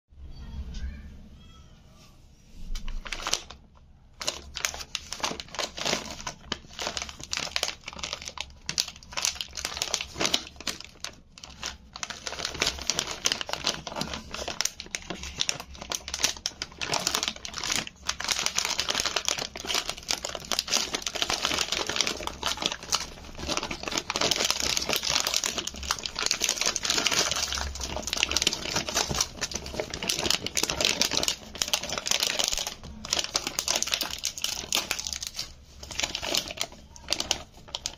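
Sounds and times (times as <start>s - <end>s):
plastic bag crinkling: 2.6s - 37.9s.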